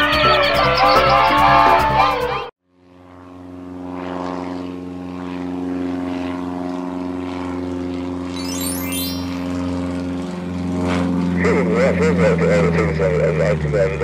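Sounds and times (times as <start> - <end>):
propeller plane engine drone: 2.7 - 14.0.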